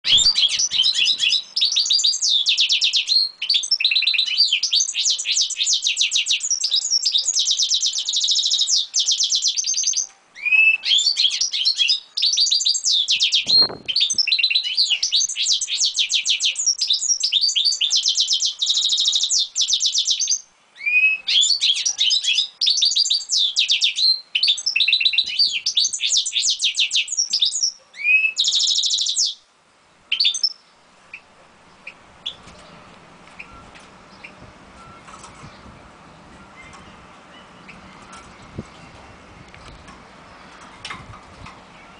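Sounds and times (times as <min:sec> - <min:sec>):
bird twittering and trilling: 0:00.0 - 0:29.4, 0:30.1 - 0:41.9.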